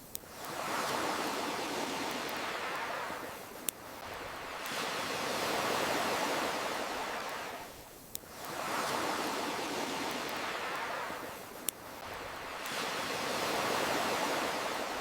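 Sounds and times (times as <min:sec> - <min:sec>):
ocean waves washing in: 0:00.3 - 0:15.0.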